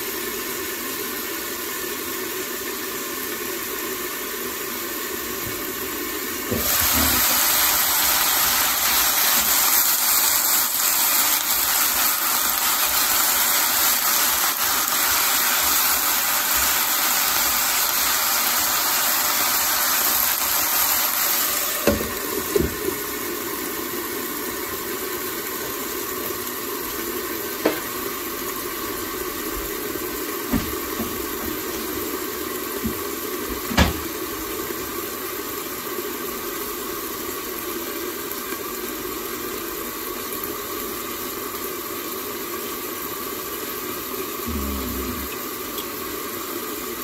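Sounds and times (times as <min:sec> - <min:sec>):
food sizzling in a skillet: 0:00.0 - 0:47.0.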